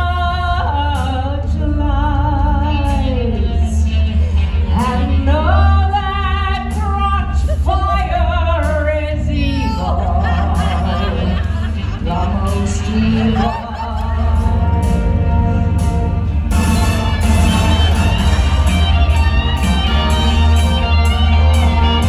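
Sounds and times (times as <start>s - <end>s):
bass-heavy musical accompaniment: 0.0s - 22.0s.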